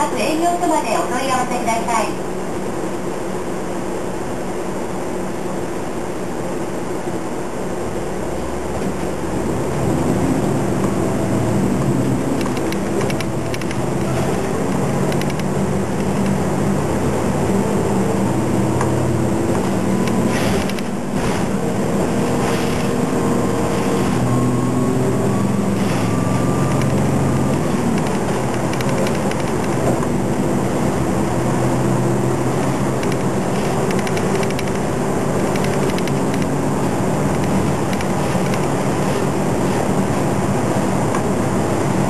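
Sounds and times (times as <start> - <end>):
bus diesel engine running: 0.0 - 42.0
road noise: 0.0 - 42.0.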